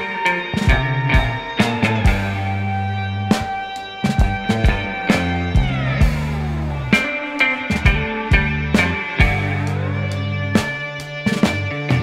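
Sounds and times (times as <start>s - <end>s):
bass guitar: 0.0s - 12.0s
drum kit: 0.0s - 12.0s
electric guitar: 0.0s - 12.0s.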